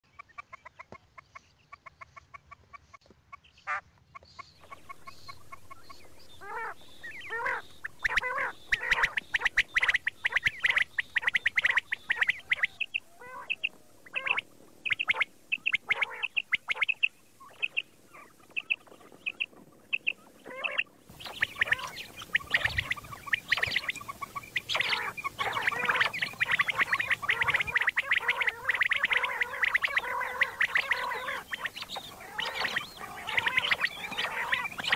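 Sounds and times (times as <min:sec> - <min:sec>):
quail calling: 0:00.1 - 0:34.9.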